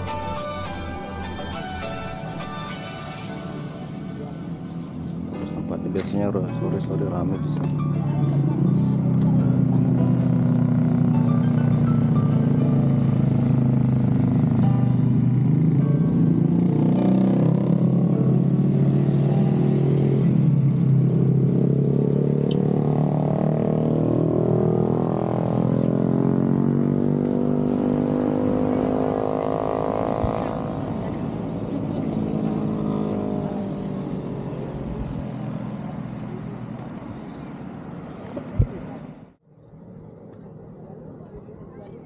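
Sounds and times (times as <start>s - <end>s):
cars and motorbikes passing: 0.0s - 42.0s.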